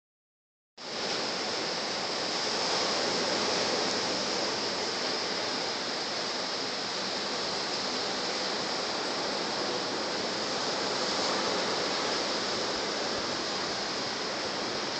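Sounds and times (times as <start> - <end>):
ocean waves breaking on shore: 0.8 - 14.9.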